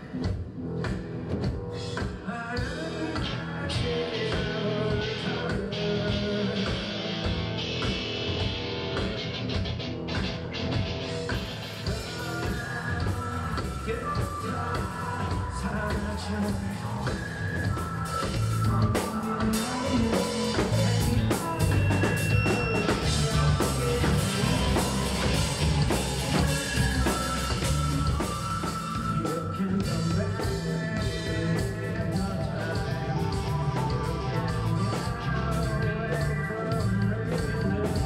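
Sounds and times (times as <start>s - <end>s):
drum kit: 0.0s - 38.0s
rock band playing: 0.0s - 38.0s
person singing: 1.4s - 8.9s, 10.3s - 38.0s.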